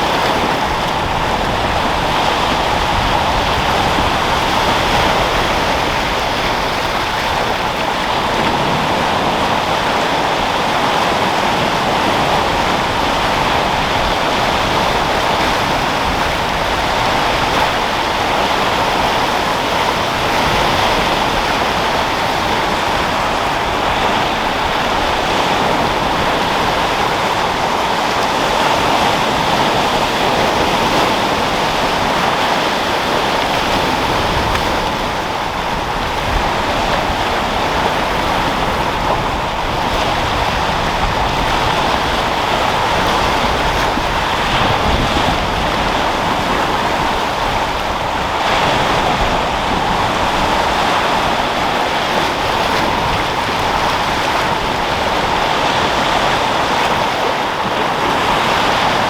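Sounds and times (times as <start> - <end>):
sea waves washing: 0.0 - 59.0
wind: 0.0 - 59.0.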